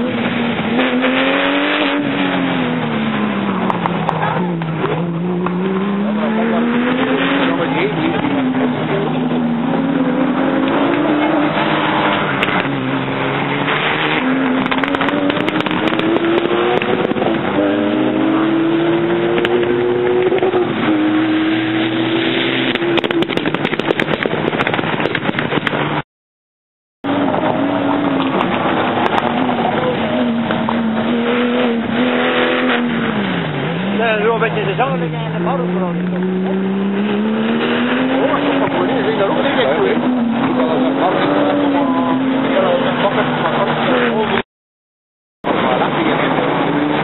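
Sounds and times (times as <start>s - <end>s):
rally car engines passing: 0.0s - 26.0s, 27.1s - 44.4s, 45.4s - 47.0s.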